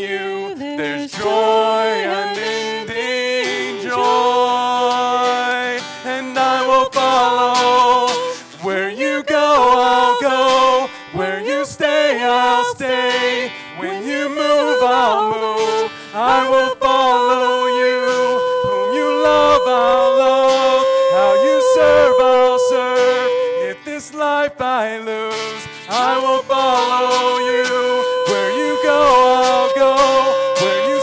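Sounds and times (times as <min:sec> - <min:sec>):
guitar: 0:00.0 - 0:31.0
person singing slow melody: 0:00.0 - 0:31.0.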